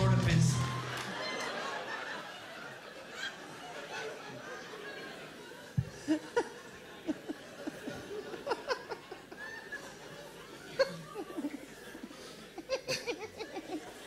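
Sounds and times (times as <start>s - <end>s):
audience laughing: 0.0s - 14.0s.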